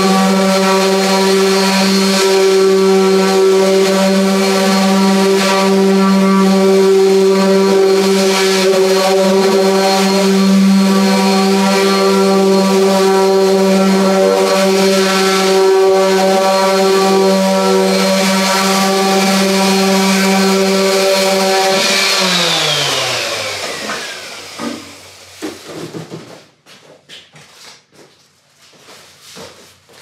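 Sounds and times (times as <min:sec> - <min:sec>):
random orbital sander running: 0:00.0 - 0:25.4
sander motor spinning down: 0:00.0 - 0:25.6.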